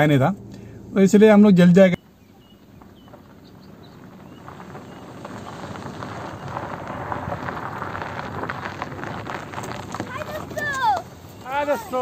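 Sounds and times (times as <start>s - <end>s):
tyres crunching over gravel: 2.0s - 12.0s.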